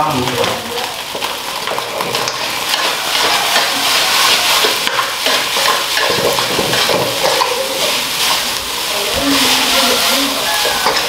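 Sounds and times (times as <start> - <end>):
rice sizzling in a wok: 0.0 - 11.0
spatula scraping a wok: 1.1 - 11.0.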